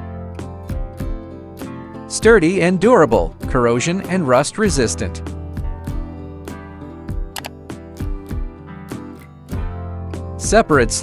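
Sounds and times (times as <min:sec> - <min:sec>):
plucked guitar music with beat: 0:00.0 - 0:11.0.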